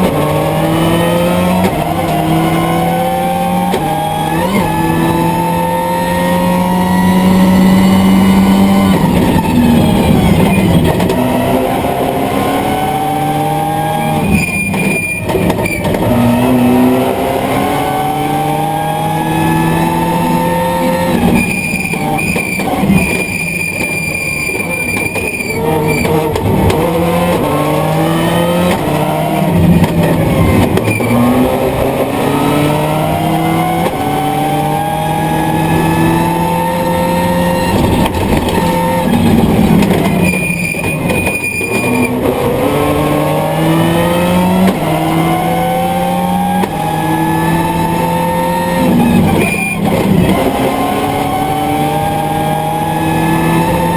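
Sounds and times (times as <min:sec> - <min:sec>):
car engine revving through gears: 0:00.0 - 0:53.9.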